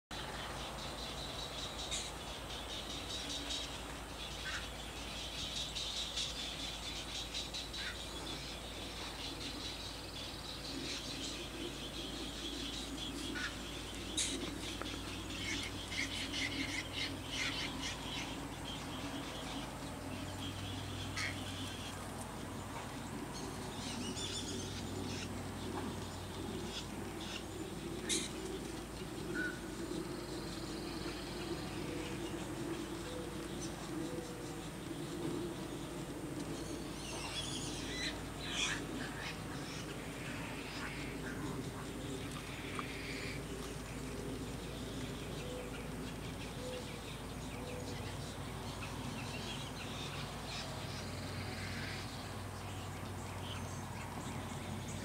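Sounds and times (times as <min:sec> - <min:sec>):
birds chirping: 0:00.1 - 0:55.0
low steady hum: 0:00.1 - 0:55.0.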